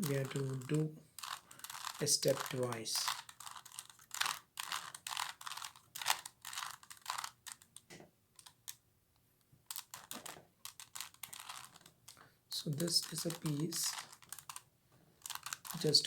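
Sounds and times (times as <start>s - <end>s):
puzzle cube clicking and rattling: 0.0s - 8.8s, 9.6s - 16.0s.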